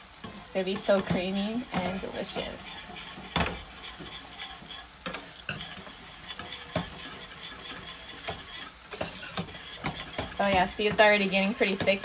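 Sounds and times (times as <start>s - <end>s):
mushrooms sizzling in a pan: 0.0s - 12.0s
whisk stirring polenta in a pot: 0.0s - 12.0s
whisk clicking against pot: 0.2s - 12.0s.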